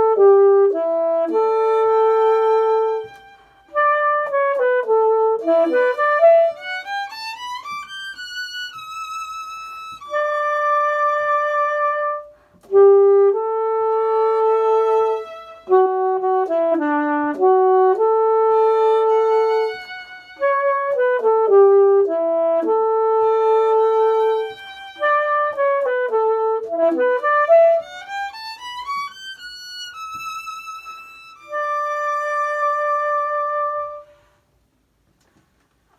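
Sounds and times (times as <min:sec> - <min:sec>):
violin and saxophone duet: 0:00.0 - 0:34.2.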